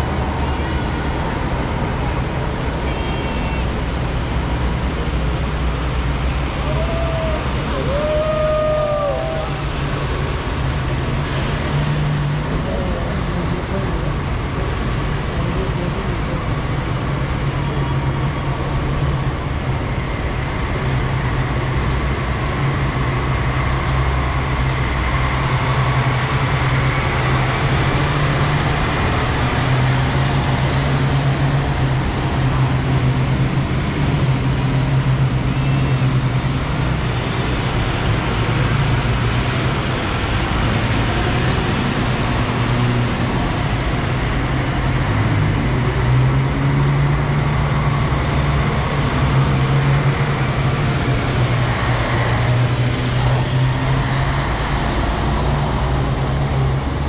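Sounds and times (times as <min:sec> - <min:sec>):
heavy truck engines humming: 0:00.0 - 0:57.0.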